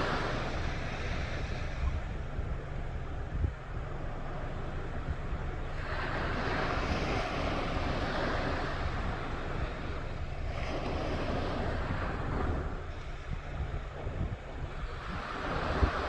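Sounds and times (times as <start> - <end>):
waves washing onto shore: 0.0 - 2.9, 3.8 - 16.0
wind rumble on microphone: 0.0 - 16.0.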